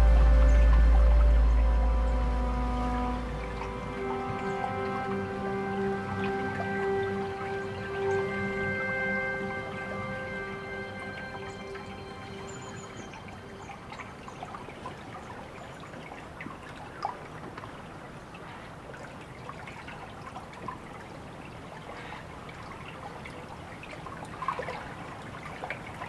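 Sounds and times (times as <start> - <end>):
water drips and plinks: 0.0 - 26.0
water splashes: 0.0 - 26.0
water trickling: 0.0 - 26.0.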